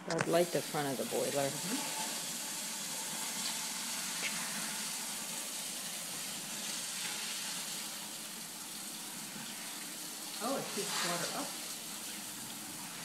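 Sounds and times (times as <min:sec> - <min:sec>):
water jet spraying: 0:00.1 - 0:13.0.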